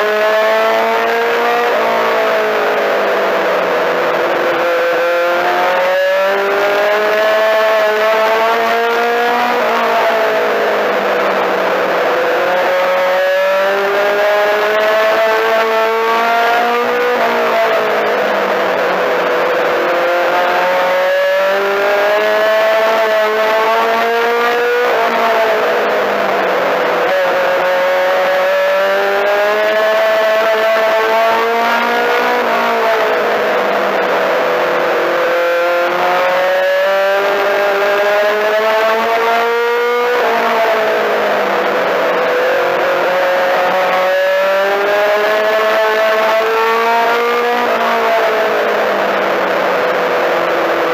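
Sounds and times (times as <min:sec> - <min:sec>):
race car engine at speed: 0:00.0 - 0:50.9.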